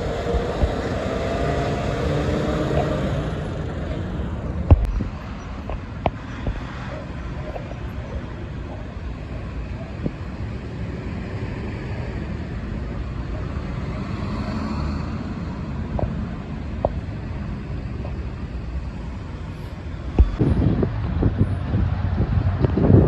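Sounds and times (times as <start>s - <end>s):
vehicle rumble: 0.0s - 23.0s.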